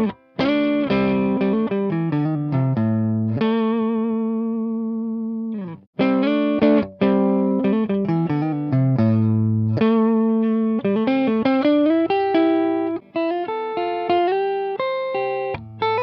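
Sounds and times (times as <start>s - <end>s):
electric guitar chord riff: 0.0s - 16.0s
guitar chord ringing: 0.0s - 16.0s.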